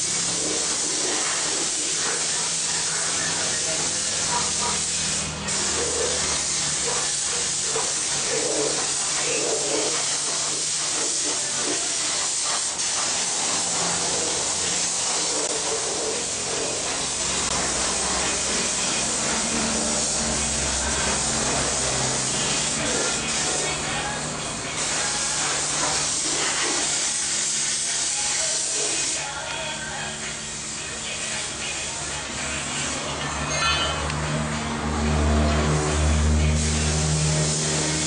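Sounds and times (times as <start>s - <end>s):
paint spray gun hissing: 0.0s - 29.4s, 36.0s - 38.0s.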